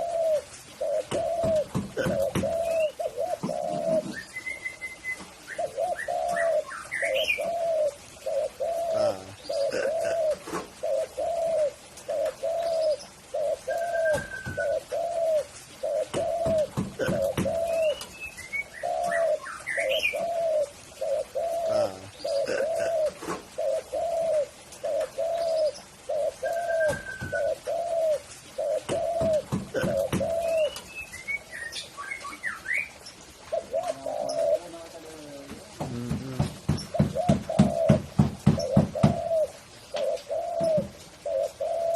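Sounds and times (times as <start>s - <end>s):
dove cooing: 0.0s - 30.8s, 31.7s - 41.9s
small birds chirping: 0.0s - 41.9s.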